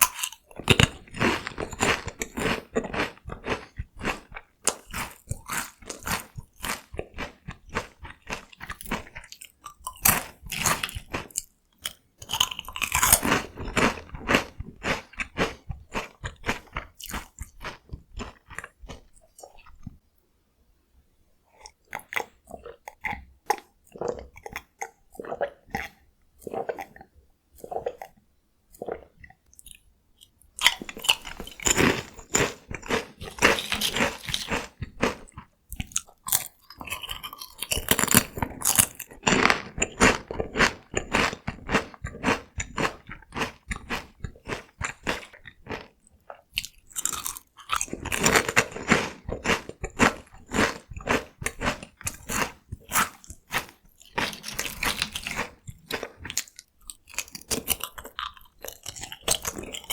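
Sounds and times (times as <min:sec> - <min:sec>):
person crunching snacks: 0:00.0 - 0:19.8, 0:29.6 - 0:59.9.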